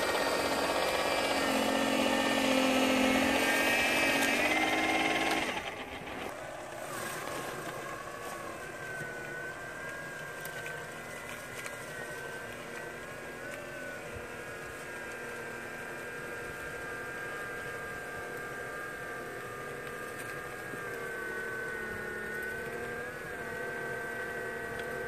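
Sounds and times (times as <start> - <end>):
snow blower motor whining: 0.0 - 25.0.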